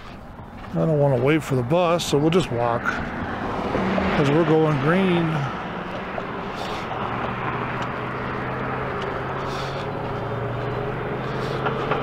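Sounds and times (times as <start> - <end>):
cars passing: 0.0 - 12.0
vehicle engine humming: 0.0 - 12.0.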